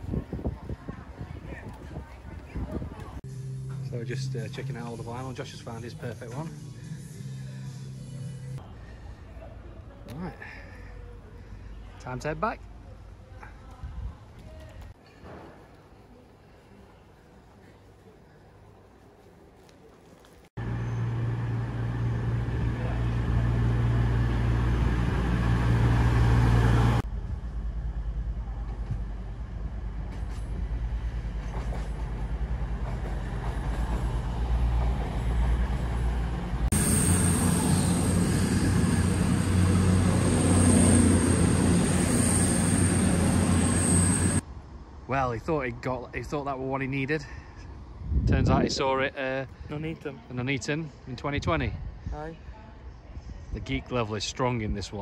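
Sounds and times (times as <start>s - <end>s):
train engine hum: 0.0s - 45.0s.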